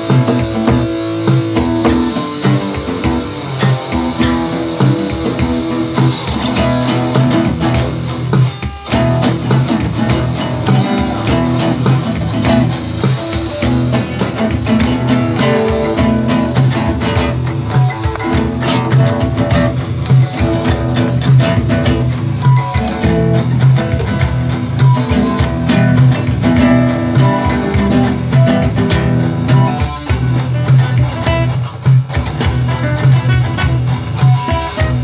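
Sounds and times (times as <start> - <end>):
classical and electric guitars: 0.0 - 35.0.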